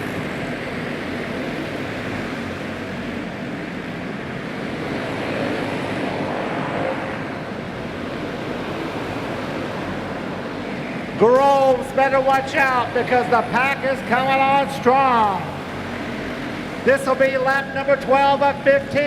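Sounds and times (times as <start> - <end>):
racing kart engines droning: 0.0 - 19.0.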